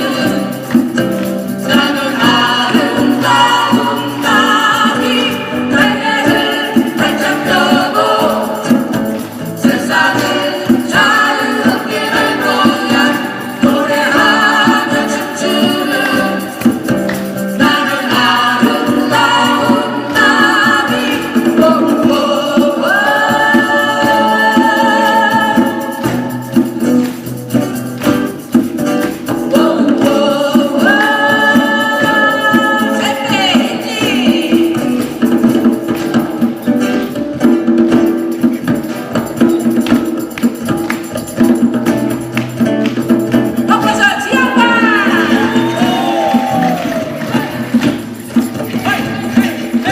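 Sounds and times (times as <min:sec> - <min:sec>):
live band playing: 0:00.0 - 0:49.9.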